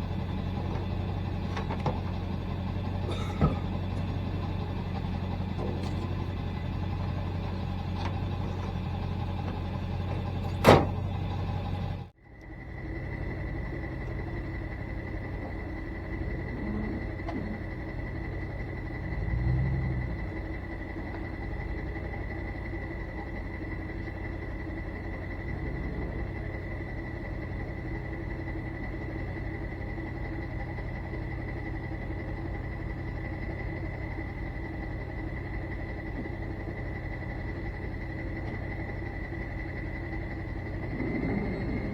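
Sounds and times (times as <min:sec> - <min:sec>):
truck engine running: 0:00.0 - 0:41.9.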